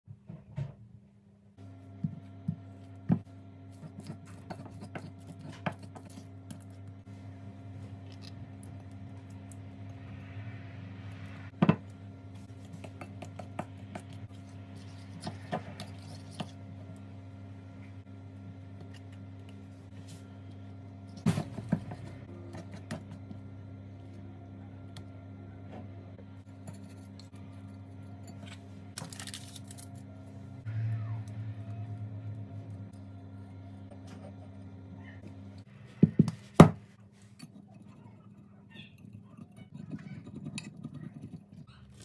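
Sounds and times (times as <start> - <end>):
low hum: 1.5 - 36.4.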